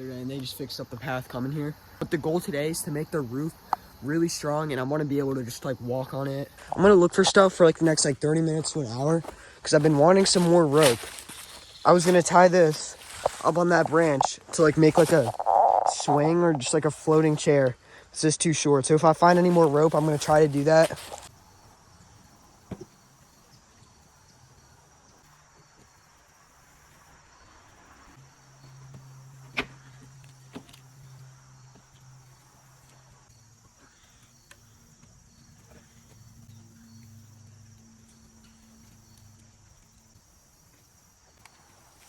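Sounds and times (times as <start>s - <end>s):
insects chirring: 0.0s - 42.0s.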